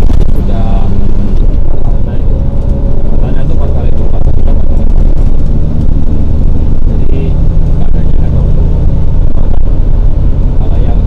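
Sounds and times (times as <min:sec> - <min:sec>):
car engine drone: 0:00.0 - 0:11.0
road noise: 0:00.0 - 0:11.0.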